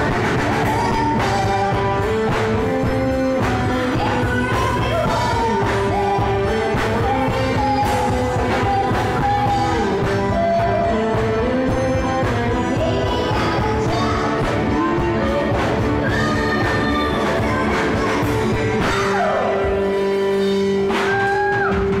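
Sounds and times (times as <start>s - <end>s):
woman singing into microphone: 0.0s - 19.9s
electric guitar: 0.0s - 22.0s
live rock band: 0.0s - 22.0s.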